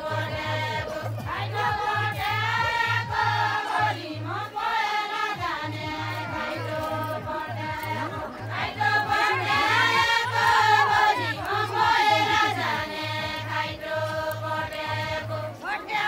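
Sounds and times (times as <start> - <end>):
women singing in chorus: 0.0 - 16.0.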